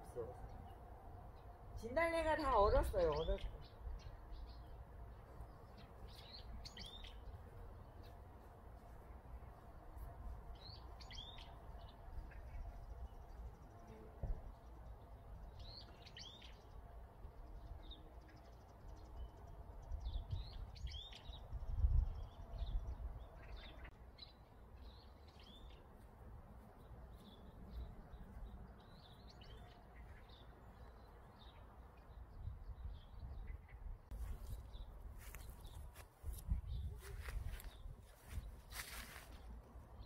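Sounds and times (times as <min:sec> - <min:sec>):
small songbirds chirping: 0:00.0 - 0:40.0.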